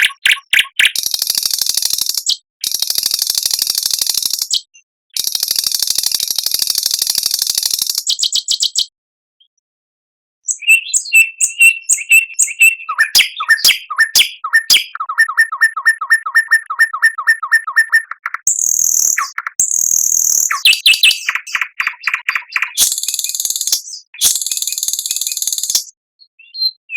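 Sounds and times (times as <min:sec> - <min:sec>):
songbird song: 0:00.0 - 0:09.6, 0:10.4 - 0:26.9.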